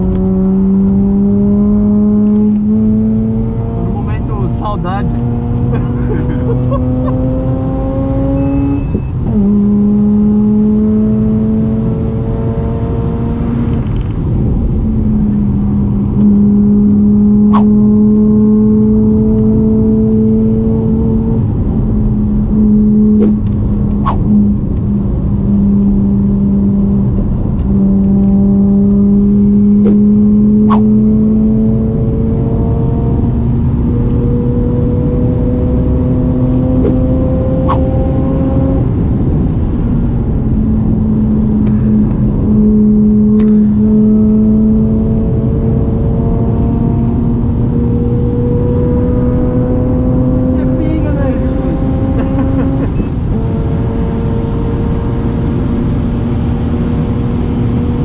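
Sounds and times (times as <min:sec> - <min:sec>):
rotary engine revving in cabin: 0:00.0 - 0:58.0.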